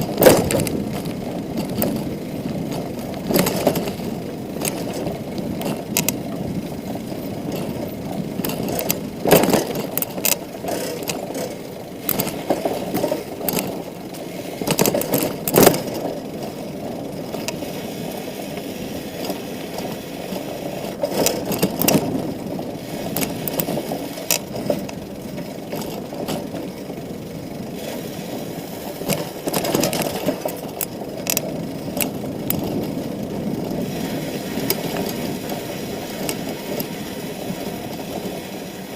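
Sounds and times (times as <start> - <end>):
bicycle rattling over bumps: 0.0 - 38.9
bicycle tyres rumbling: 0.0 - 38.9.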